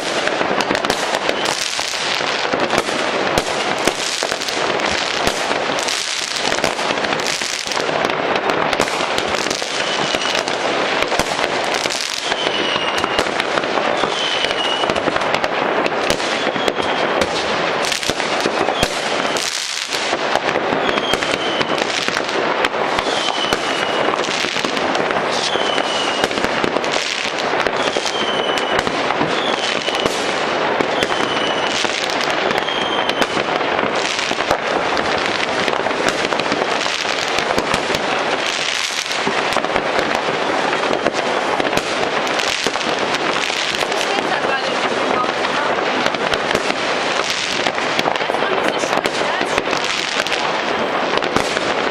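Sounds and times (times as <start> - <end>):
fireworks crackling and banging: 0.0 - 51.9.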